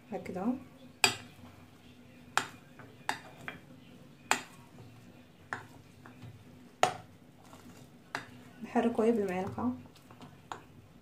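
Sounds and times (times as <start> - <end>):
spoon stirring thick batter: 0.2 - 11.0.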